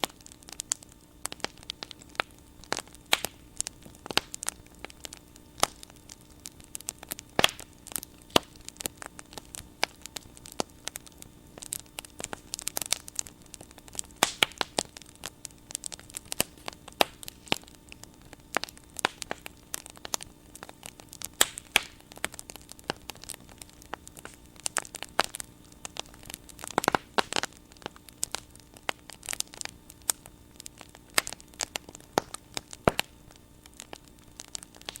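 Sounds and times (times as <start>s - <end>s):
bonfire crackling and popping: 0.0s - 35.0s
faint steady hum: 0.0s - 35.0s.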